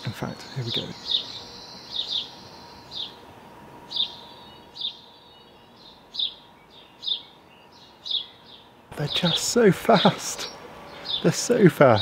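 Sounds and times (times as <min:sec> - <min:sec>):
small bird chirping: 0:00.3 - 0:11.6.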